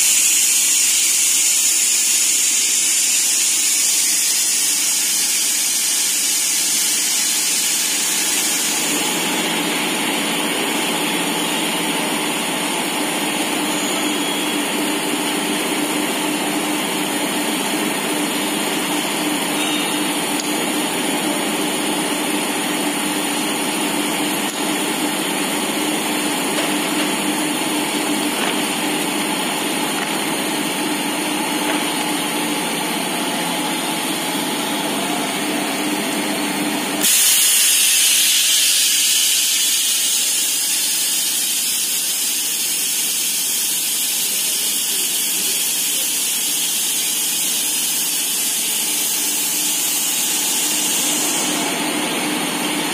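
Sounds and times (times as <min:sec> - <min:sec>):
factory machinery humming: 0:00.0 - 0:52.9.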